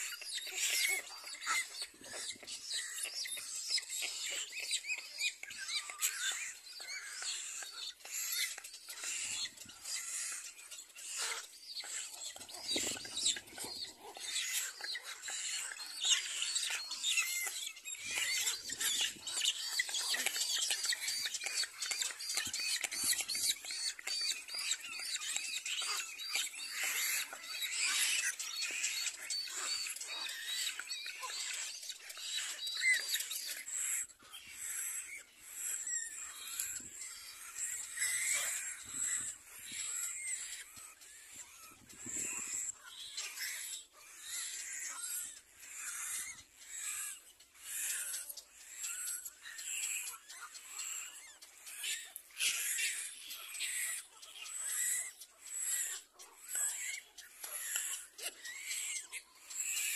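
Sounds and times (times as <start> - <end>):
chicks squeaky begging calls: 0.0 - 59.9.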